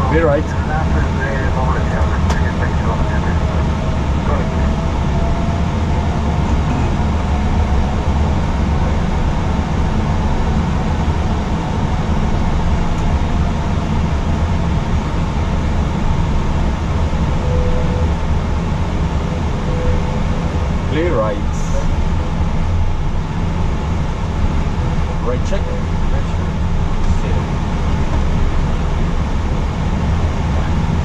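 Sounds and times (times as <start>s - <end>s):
air conditioning rumble: 0.0s - 31.0s
jet engines idling: 0.0s - 31.0s.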